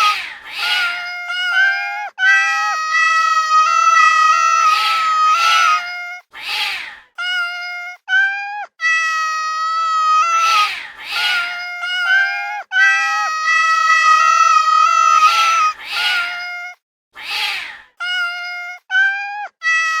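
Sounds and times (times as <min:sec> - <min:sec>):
cat meowing loudly: 0:00.0 - 0:16.8, 0:18.0 - 0:20.0.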